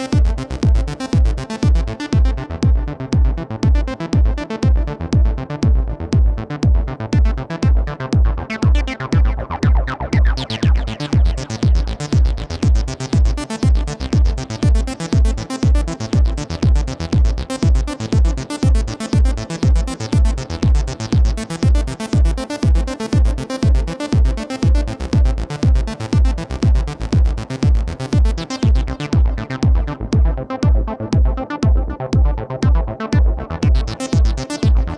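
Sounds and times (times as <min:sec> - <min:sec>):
electronic dance music: 0:00.0 - 0:05.3, 0:08.6 - 0:34.9
heavy kick drum: 0:00.0 - 0:34.9.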